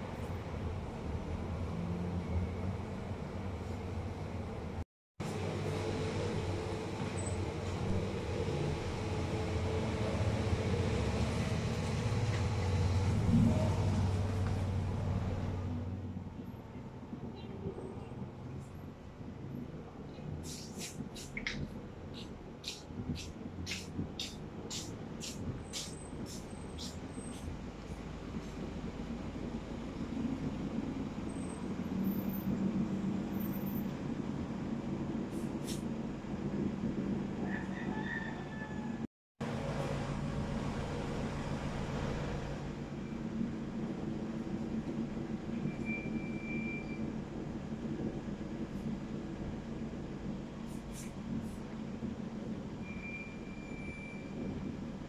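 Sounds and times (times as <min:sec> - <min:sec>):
low machinery rumble with hum: 0:00.0 - 0:55.0.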